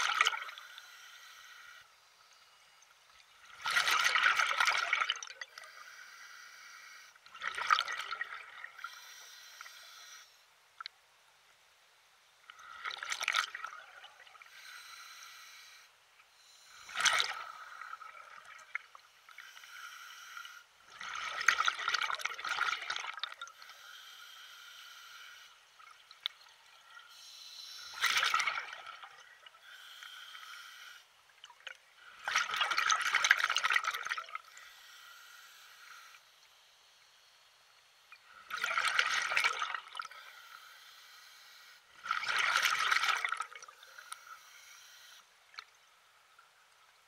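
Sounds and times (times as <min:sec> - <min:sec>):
water lapping and trickling: 0:00.0 - 0:11.0, 0:12.4 - 0:47.0.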